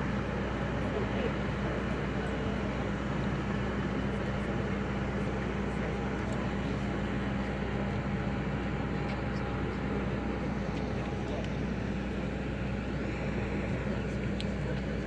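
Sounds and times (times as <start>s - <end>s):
jet airliner mechanical hum: 0.0s - 15.0s.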